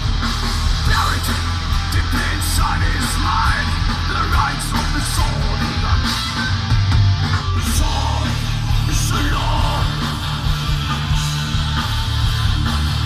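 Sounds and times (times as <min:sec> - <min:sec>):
bass guitar: 0:00.0 - 0:13.0
distorted electric guitar: 0:00.0 - 0:13.0
drums: 0:00.0 - 0:13.0.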